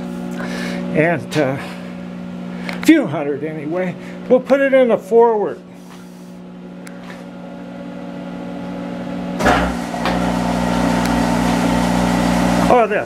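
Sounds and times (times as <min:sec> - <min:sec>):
lathe motor whirring with rumble: 0:00.0 - 0:05.8, 0:06.4 - 0:13.0
lathe drive humming: 0:00.0 - 0:13.0.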